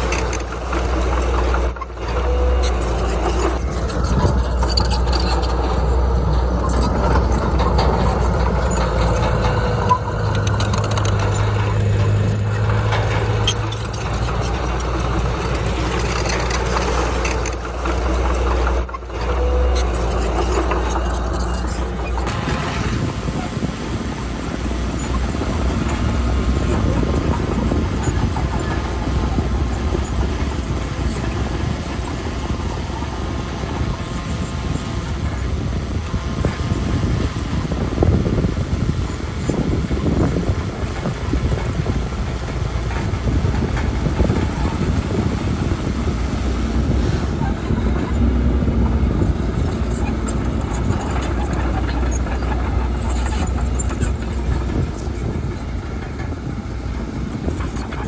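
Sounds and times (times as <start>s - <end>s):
diesel engine low rumble: 0.0s - 58.0s.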